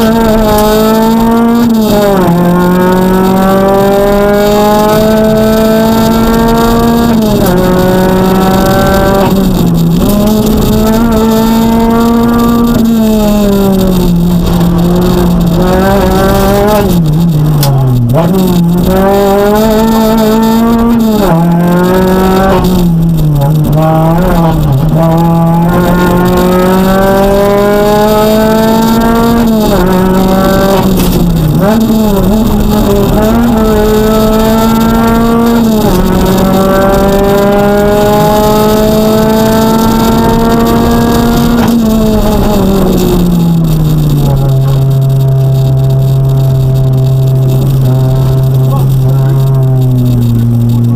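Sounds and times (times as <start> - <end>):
rally car engine at full throttle: 0.0 - 50.9.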